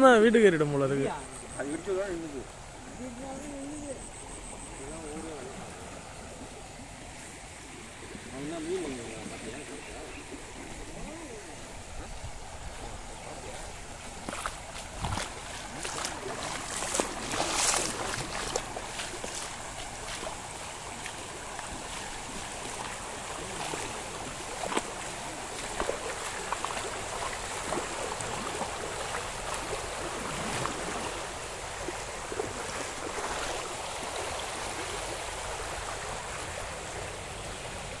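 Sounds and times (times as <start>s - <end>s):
floodwater rushing: 0.0s - 38.0s
water splashes: 0.0s - 38.0s.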